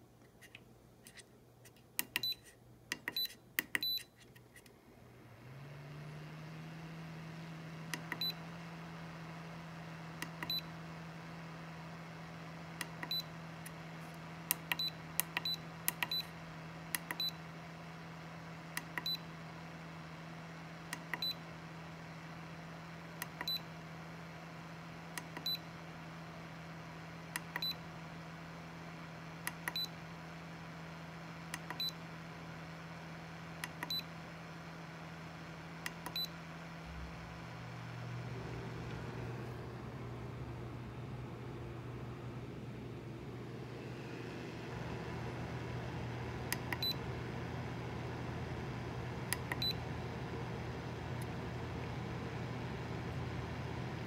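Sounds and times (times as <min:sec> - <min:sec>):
cooling fan humming: 0:04.7 - 0:54.0.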